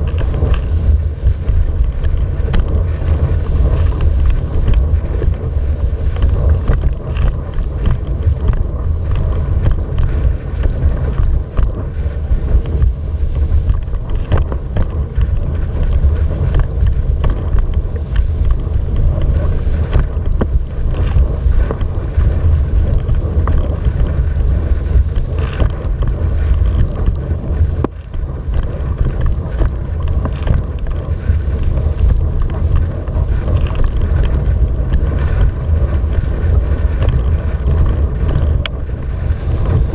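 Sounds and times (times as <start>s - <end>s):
water rushing and slapping: 0.0s - 39.9s
wind buffeting microphone: 0.0s - 39.9s.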